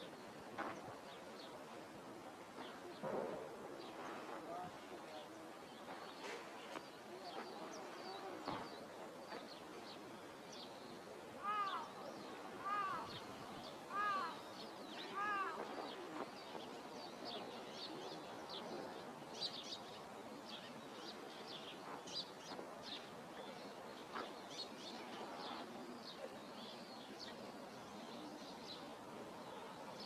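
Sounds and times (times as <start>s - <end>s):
faint outdoor hiss: 0.0s - 30.0s
small birds chirping: 3.8s - 30.0s.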